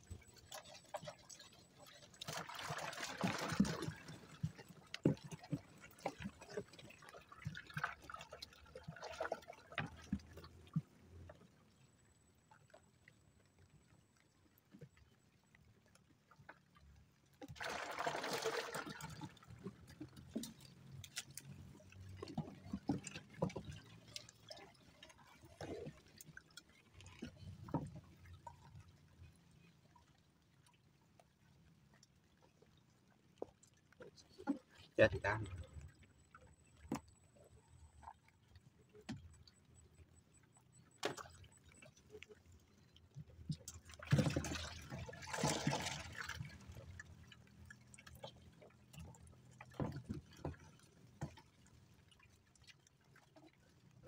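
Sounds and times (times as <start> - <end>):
water splashing and pouring: 0.0 - 11.6, 17.4 - 54.0
water trickling: 0.0 - 54.0.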